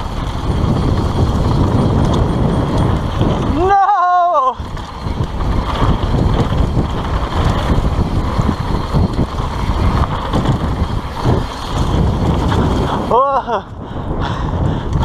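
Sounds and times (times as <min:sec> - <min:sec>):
bike tyres rumbling over dirt: 0:00.0 - 0:15.0
wind buffeting microphone: 0:00.0 - 0:15.0.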